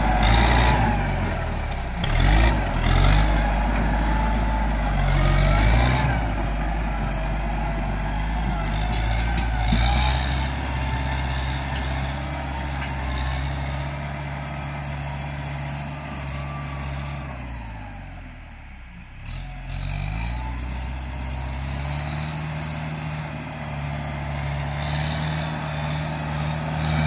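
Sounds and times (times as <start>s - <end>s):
diesel tractor engine under load: 0.0s - 27.0s.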